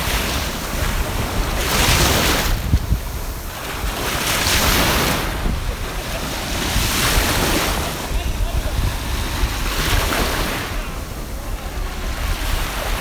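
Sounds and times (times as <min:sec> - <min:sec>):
surf washing ashore: 0:00.0 - 0:13.0
wind buffeting microphone: 0:00.0 - 0:13.0.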